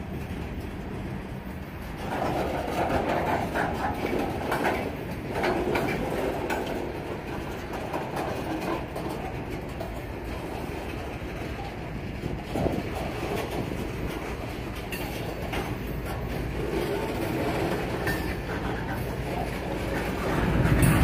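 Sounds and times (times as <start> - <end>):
train wheels rumbling on rails: 0.0 - 21.0
wheels clacking: 0.0 - 21.0.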